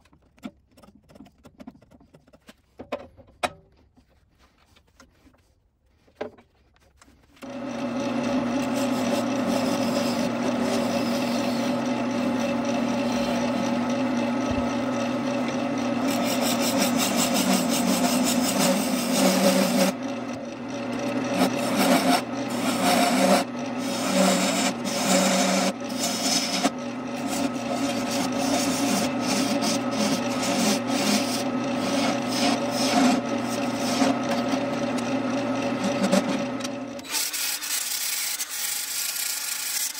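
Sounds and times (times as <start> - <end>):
turning tool scraping wood: 4.0 - 39.9
wood lathe humming: 7.4 - 39.9.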